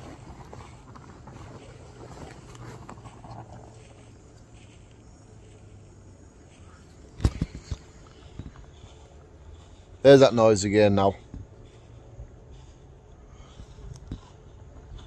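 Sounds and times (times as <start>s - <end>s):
faint crackles and rustles: 0.0s - 15.0s
low steady hum: 0.0s - 15.0s.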